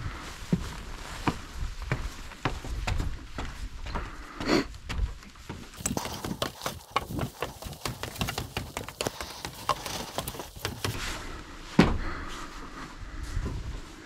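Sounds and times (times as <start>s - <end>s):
footsteps climbing stairs: 0.5s - 12.1s.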